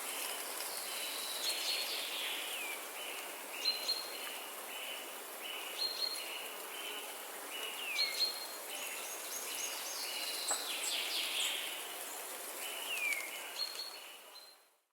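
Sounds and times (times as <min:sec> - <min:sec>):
background hiss: 0:00.0 - 0:14.5.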